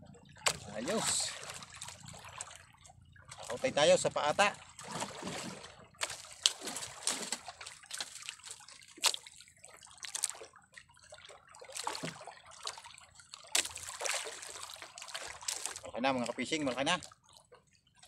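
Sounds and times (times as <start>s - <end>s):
water splashing against boat: 0.0s - 18.0s.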